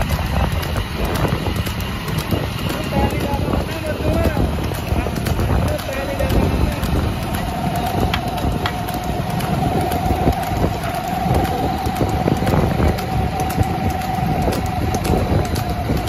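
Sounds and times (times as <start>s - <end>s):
motorcycle running at speed: 0.0s - 16.0s
steady whine: 0.0s - 16.0s
wind buffeting microphone: 0.0s - 16.0s.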